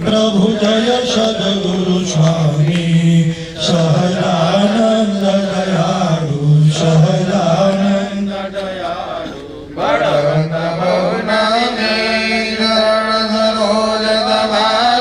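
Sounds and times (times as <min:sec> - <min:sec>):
mantras chanted: 0:00.0 - 0:15.0.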